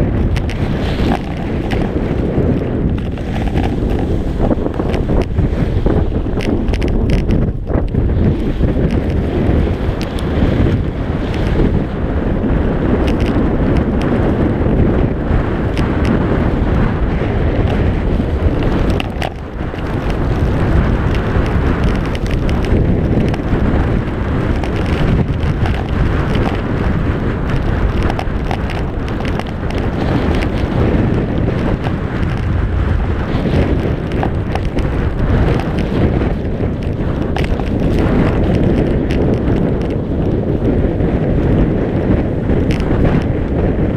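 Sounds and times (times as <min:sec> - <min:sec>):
skis carving over hard snow: 0:00.0 - 0:43.9
wind buffeting microphone: 0:00.0 - 0:43.9.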